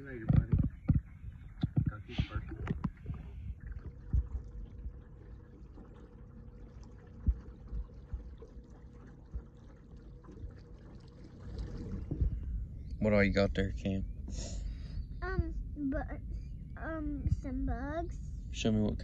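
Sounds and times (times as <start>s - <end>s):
low rumble: 0.0s - 19.0s
water lapping against a boat: 0.0s - 19.0s.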